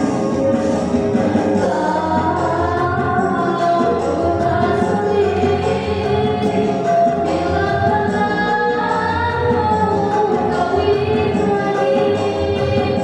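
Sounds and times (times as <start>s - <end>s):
backing track: 0.0s - 13.0s
woman singing pop song: 1.2s - 13.0s.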